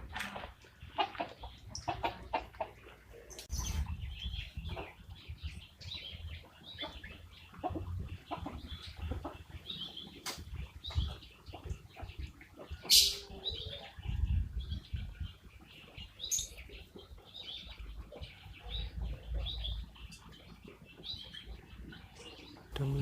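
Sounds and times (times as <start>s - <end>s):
chickens calling: 0.0s - 23.0s.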